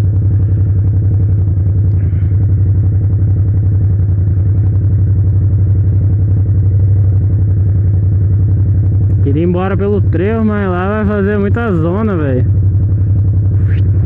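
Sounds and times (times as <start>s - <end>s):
motorcycle engine pulsing: 0.0s - 14.0s.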